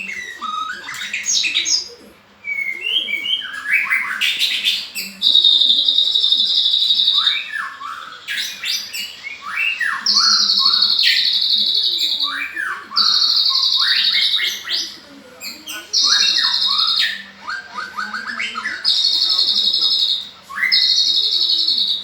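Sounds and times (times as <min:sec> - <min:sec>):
bird singing high trills: 0:00.0 - 0:22.0.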